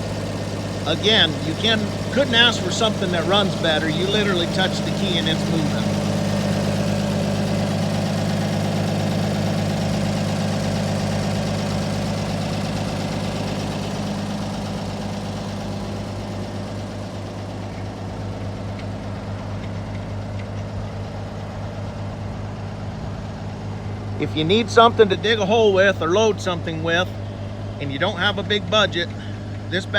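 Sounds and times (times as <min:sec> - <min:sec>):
backhoe engine running: 0:00.0 - 0:29.9.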